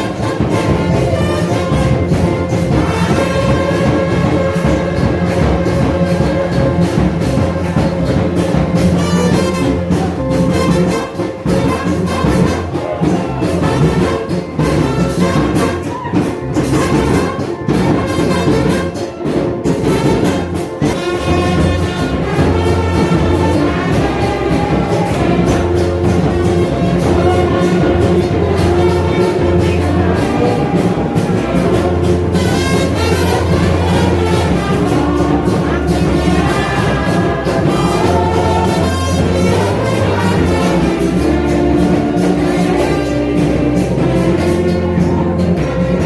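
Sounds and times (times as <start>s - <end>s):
brass band playing: 0.0s - 46.0s.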